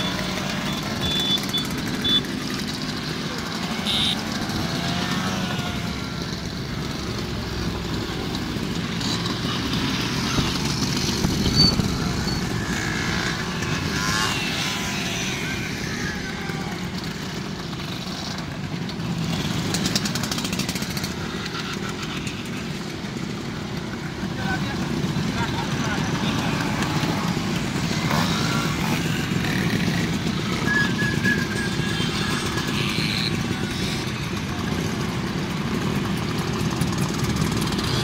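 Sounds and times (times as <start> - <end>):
scooters riding past: 0.0 - 38.0.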